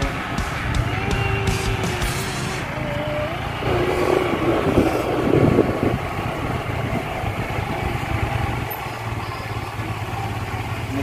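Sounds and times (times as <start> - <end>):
rush of noise: 0.0 - 10.6
motorcycle engine puttering: 0.0 - 11.0.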